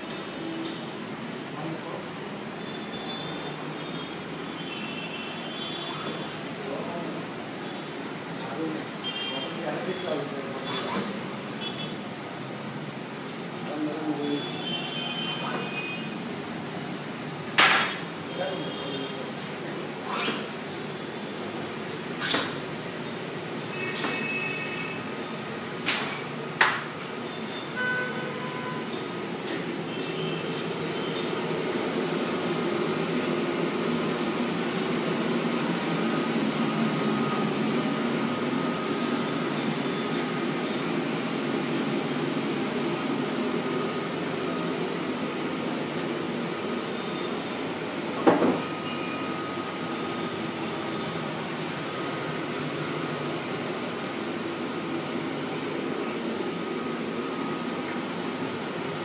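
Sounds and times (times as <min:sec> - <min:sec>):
laser cutter whir: 0:02.0 - 0:26.4, 0:27.1 - 0:59.0.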